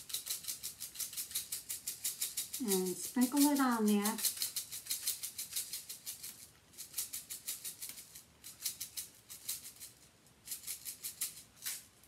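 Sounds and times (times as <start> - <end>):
sprinkles rattling in shaker: 0.0 - 12.0.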